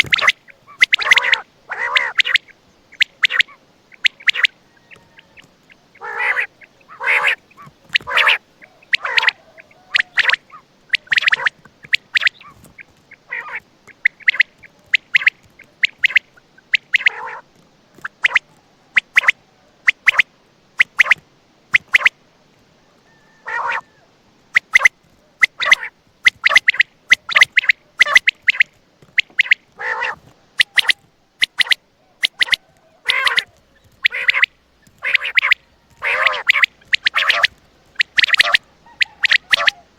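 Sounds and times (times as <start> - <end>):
quail calling: 0.0 - 22.2, 23.0 - 39.9.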